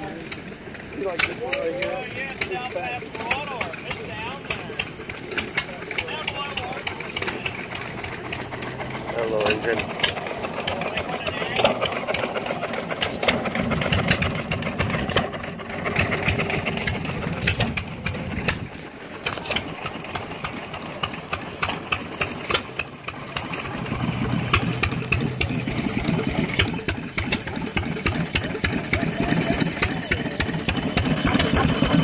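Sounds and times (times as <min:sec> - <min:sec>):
gas engines chugging and popping: 0:00.0 - 0:32.0
low engine hum: 0:00.0 - 0:32.0.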